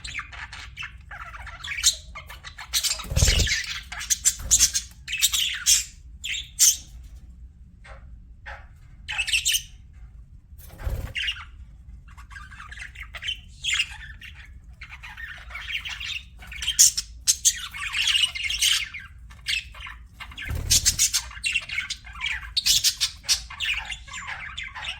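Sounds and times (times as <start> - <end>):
budgerigars chirping and chattering: 0.0 - 7.2, 7.8 - 10.0, 10.7 - 24.9.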